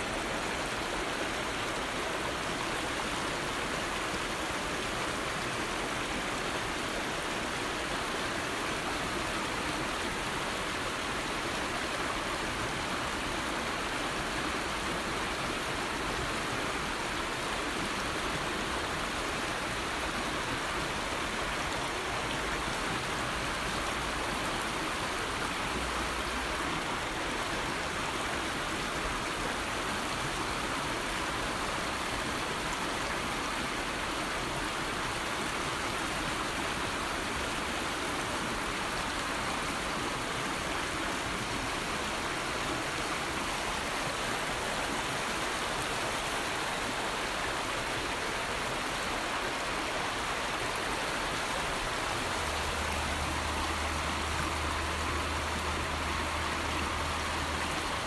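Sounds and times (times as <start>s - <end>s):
river flowing over riffles: 0.0s - 58.0s.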